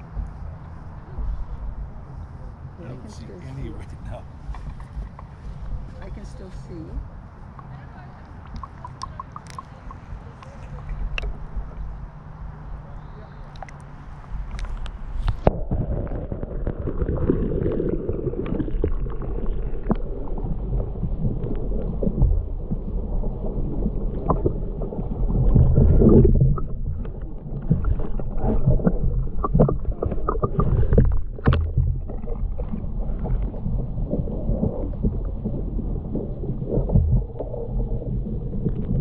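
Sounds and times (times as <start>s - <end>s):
muffled underwater rumble: 0.0s - 39.0s.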